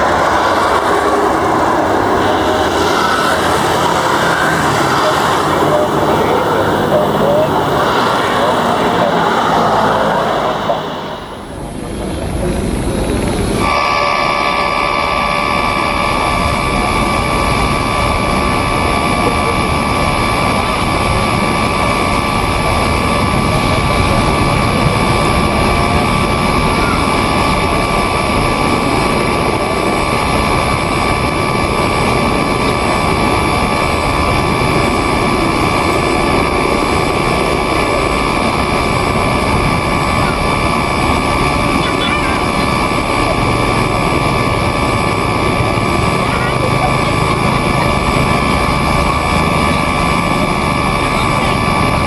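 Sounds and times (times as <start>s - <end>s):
jet engines roaring: 0.0s - 52.0s
turbine whine: 0.0s - 52.0s.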